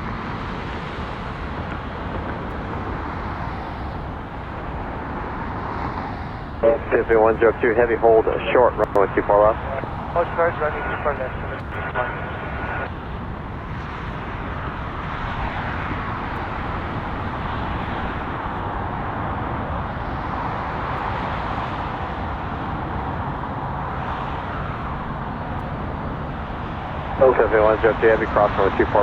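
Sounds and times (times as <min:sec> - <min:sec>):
jet engine rumble and hiss: 0:00.0 - 0:29.0.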